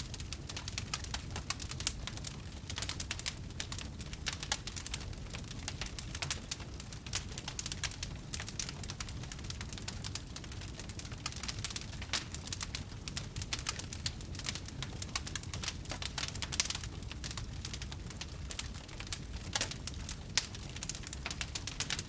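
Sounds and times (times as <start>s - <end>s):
low rumble of flames: 0.0s - 22.0s
campfire pops and snaps: 0.2s - 22.0s.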